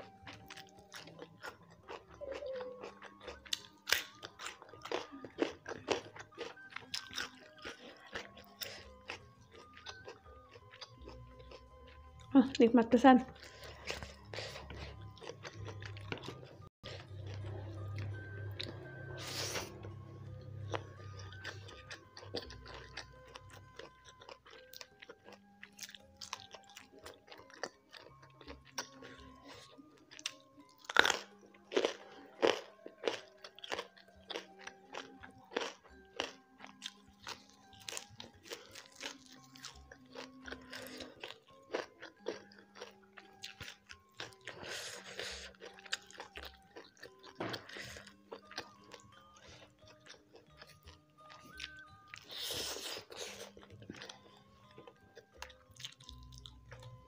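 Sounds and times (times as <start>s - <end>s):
chewing and crunching food: 0.0s - 57.0s
soft background music: 0.0s - 57.0s.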